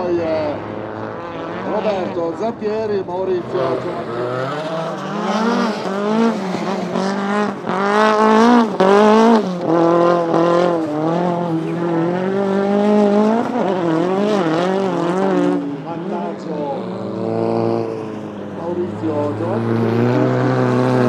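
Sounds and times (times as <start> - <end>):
car engine revving hard: 0.0 - 2.6, 3.3 - 21.0.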